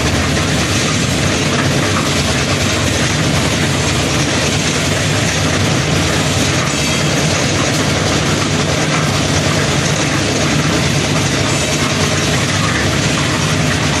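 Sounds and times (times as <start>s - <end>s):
concrete mixer running: 0.0s - 14.0s.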